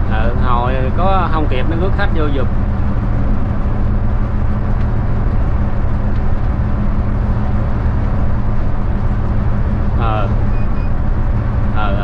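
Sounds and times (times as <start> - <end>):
coach engine droning: 0.0 - 12.0.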